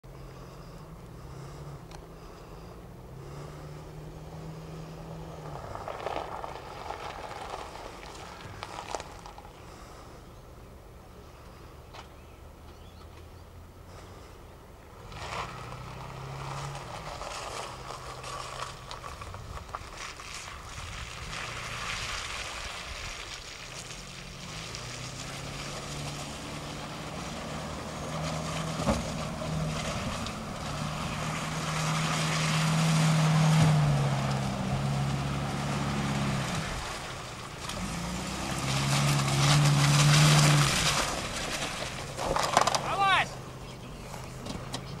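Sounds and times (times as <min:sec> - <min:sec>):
suv engine revving in mud: 0:00.2 - 0:10.4, 0:13.6 - 0:45.0.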